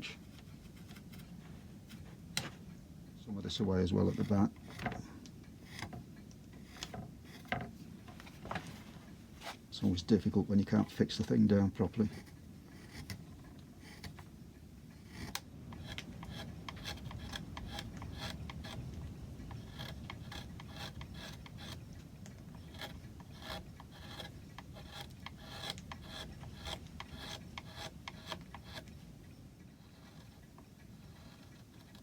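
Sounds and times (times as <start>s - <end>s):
hand tool scraping wood: 3.6s - 6.0s, 6.6s - 14.2s, 15.0s - 29.0s, 29.8s - 32.0s.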